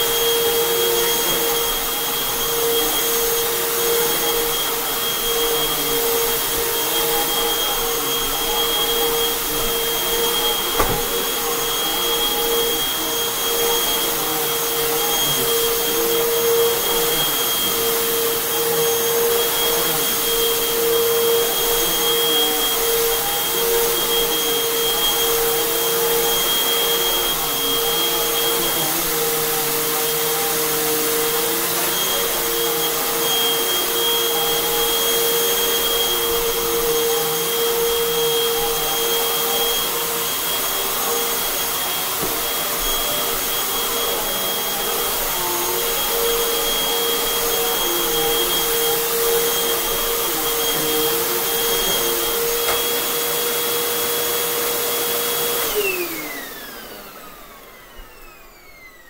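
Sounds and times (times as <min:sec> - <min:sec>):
vacuum cleaner motor whine: 0:00.0 - 0:59.0.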